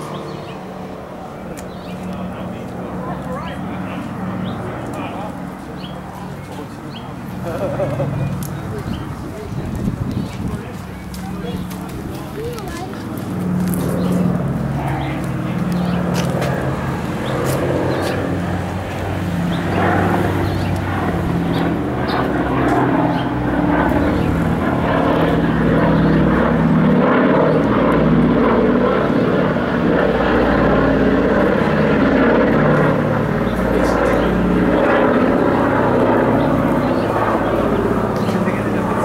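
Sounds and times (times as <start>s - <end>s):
propeller plane engines droning: 0.0s - 39.0s.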